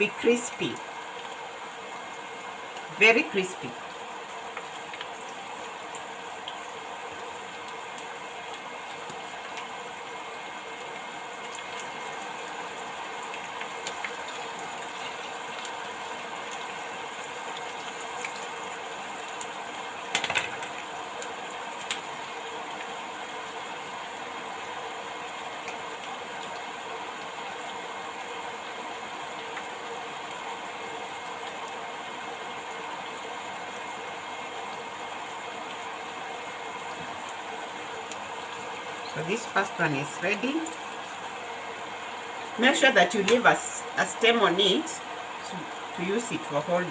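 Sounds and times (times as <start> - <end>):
leaves deep-frying in hot oil: 0.0 - 46.9.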